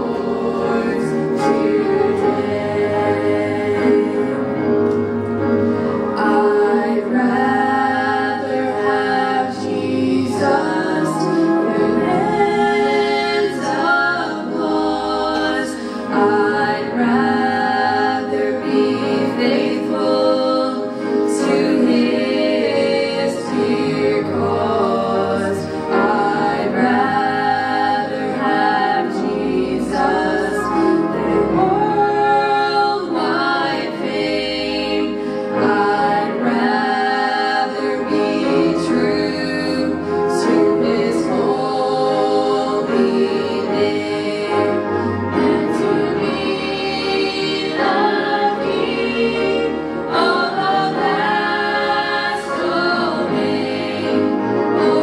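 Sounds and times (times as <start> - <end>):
choir singing: 0.0 - 55.0
lead voices singing into microphones: 0.0 - 55.0.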